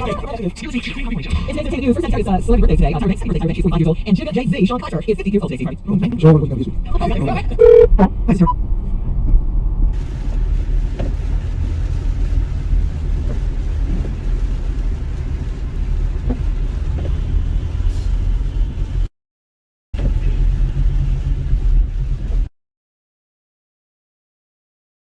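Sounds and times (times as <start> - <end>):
car road and engine rumble: 0.0 - 19.1, 20.0 - 22.5.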